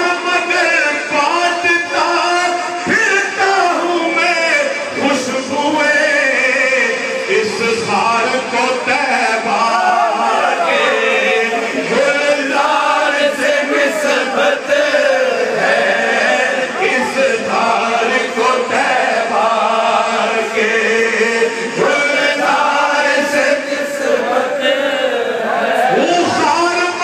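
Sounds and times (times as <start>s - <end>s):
men chanting devotional poem: 0.0s - 27.0s.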